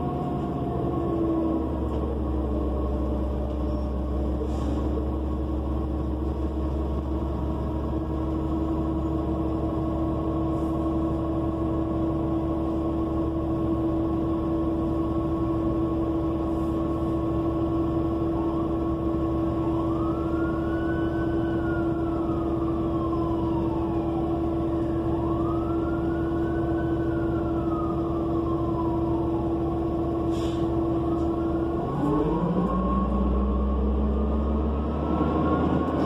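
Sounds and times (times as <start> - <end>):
bus engine droning: 0.0 - 36.0
emergency siren wailing: 5.0 - 36.0.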